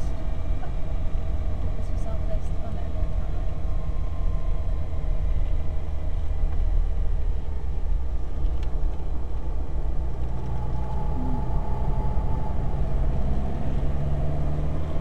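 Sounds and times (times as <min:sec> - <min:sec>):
car engine at speed: 0:00.0 - 0:15.0
road and wind noise: 0:00.0 - 0:15.0.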